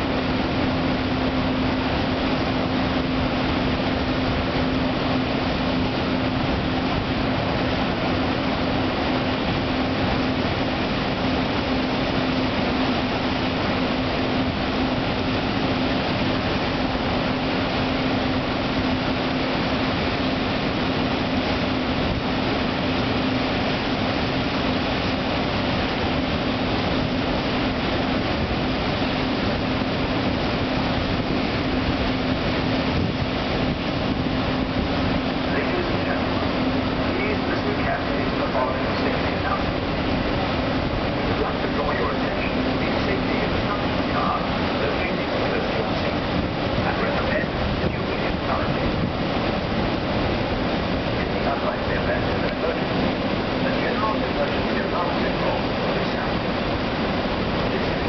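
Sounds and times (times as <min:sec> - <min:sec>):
ferry turbines loud rush: 0:00.0 - 0:58.0
steady hum: 0:00.0 - 0:58.0.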